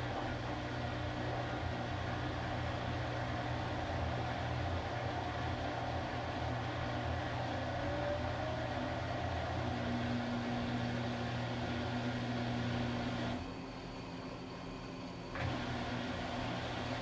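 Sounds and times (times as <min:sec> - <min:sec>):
washing machine running: 0:00.0 - 0:13.7, 0:15.3 - 0:17.0.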